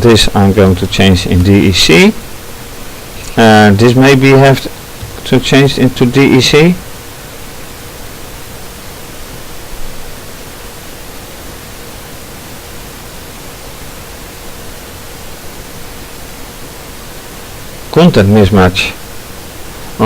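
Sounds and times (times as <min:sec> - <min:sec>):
background hiss: 0:00.0 - 0:20.0
faint hum-like tone: 0:00.0 - 0:20.0.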